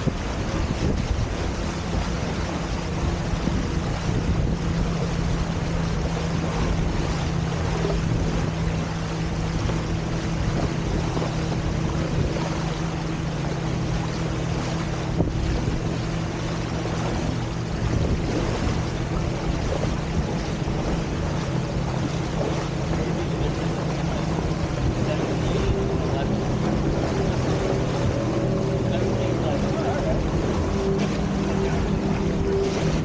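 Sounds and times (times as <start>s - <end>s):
low hum: 0.0s - 33.0s
water rushing along hulls: 0.0s - 33.0s
wind buffeting microphone: 0.0s - 33.0s.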